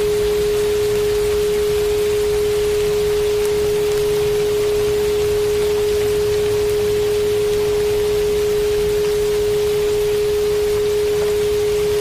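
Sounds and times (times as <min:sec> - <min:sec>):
rain hiss: 0:00.0 - 0:12.0
steady sine tone: 0:00.0 - 0:12.0.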